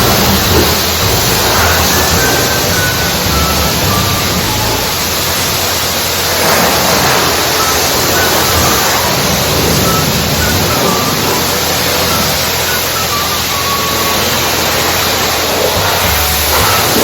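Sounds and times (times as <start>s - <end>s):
pressure wand water spray hissing: 0.0s - 17.0s.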